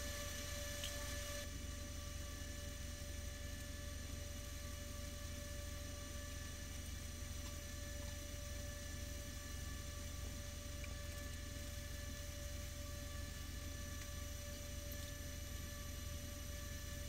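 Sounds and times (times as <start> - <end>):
steady quiet hum: 0.0 - 17.0.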